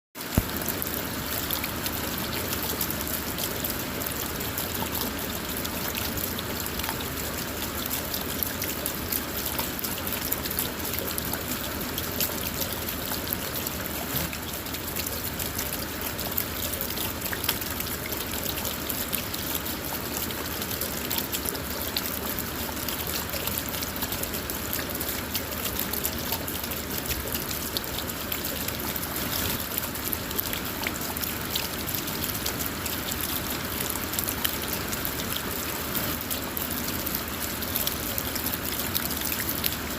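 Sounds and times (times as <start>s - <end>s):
rain hiss on car: 0.2s - 39.9s
raindrops ticking on car: 0.2s - 39.9s.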